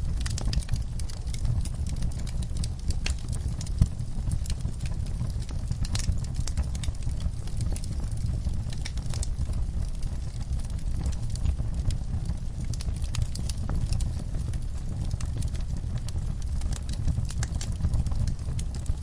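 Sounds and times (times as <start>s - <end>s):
low rumble of flame: 0.0s - 19.0s
wood fire crackling: 0.0s - 19.0s.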